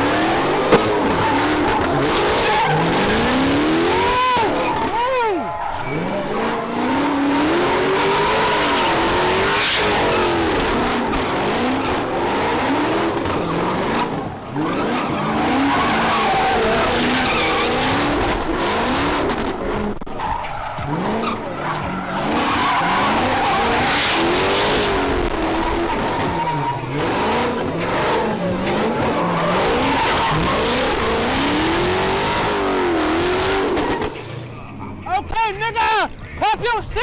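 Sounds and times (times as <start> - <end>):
car engines revving high: 0.0 - 36.9
tyres screeching: 0.0 - 37.0.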